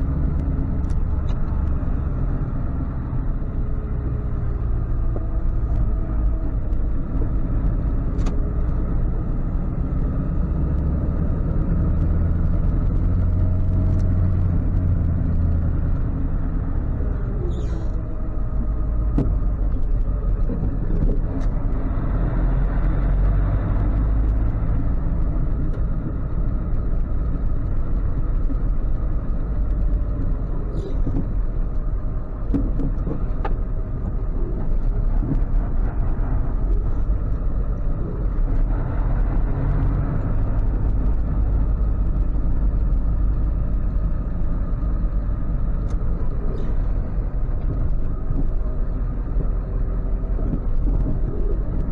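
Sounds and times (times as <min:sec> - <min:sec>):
road noise: 0:00.0 - 0:51.9
truck engine rumble: 0:00.0 - 0:51.9.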